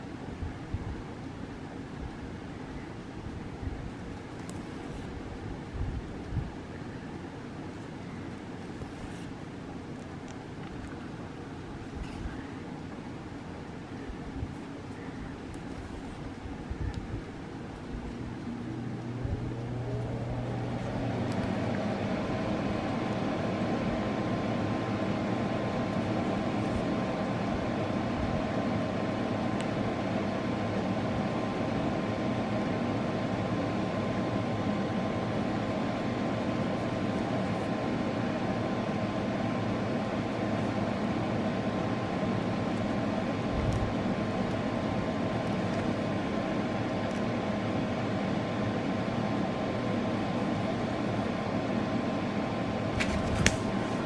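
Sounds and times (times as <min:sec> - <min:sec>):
mechanical hum with whine: 0:00.0 - 0:54.0.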